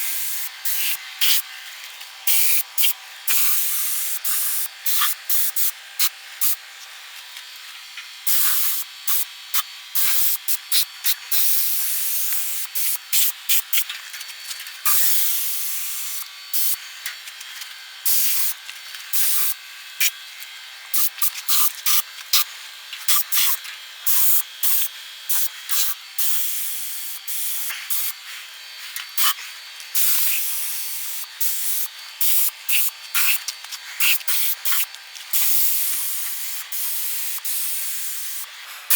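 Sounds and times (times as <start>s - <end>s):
paint spray gun hissing: 0.0s - 1.4s, 2.3s - 6.6s, 8.2s - 13.9s, 14.8s - 16.8s, 18.0s - 20.2s, 20.9s - 22.4s, 23.0s - 38.9s.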